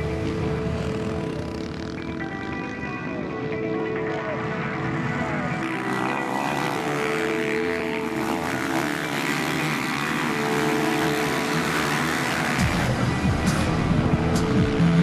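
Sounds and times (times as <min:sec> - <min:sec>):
motocross bike engines revving: 0:00.0 - 0:03.3, 0:04.0 - 0:15.0.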